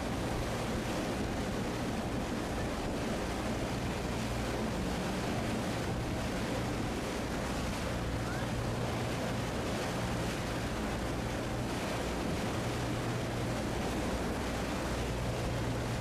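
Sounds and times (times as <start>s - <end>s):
boat engine humming: 0.0s - 16.0s
rushing water: 0.0s - 16.0s
wind: 0.0s - 16.0s.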